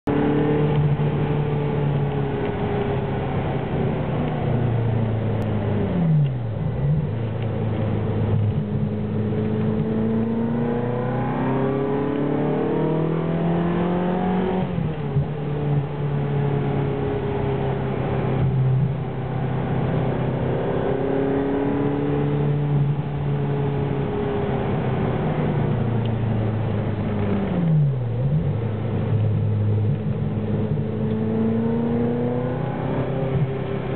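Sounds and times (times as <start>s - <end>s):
car engine under load: 0.0s - 33.9s.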